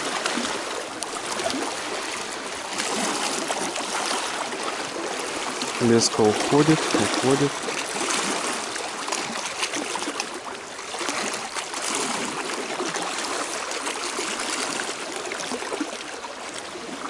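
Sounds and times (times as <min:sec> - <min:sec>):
small waves lapping on rocks: 0:00.0 - 0:17.0.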